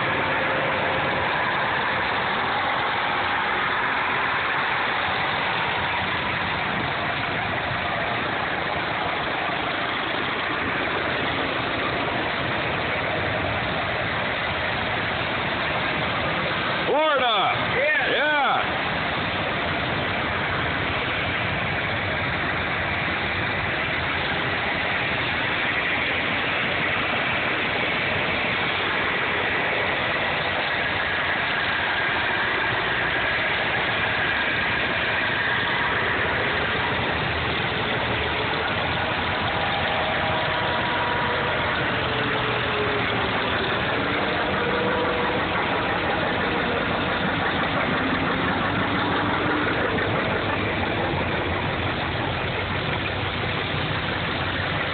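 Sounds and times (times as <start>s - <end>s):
tractors driving past: 0.0s - 54.9s.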